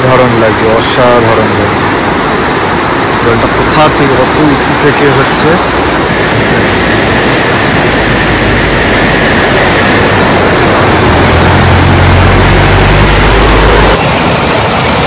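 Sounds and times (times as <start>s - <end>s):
vehicle engine drone: 0.0s - 15.0s
waterfall stream rushing: 0.0s - 15.0s.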